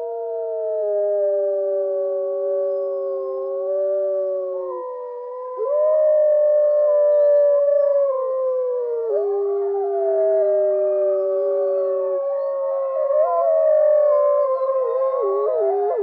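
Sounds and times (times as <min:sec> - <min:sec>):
wolves howling: 0:00.0 - 0:16.0.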